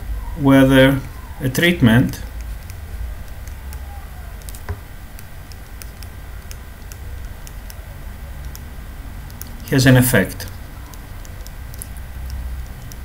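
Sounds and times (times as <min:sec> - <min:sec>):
low steady hum: 0:00.0 - 0:13.0
stylus ticking on drawing tablet: 0:02.1 - 0:13.0.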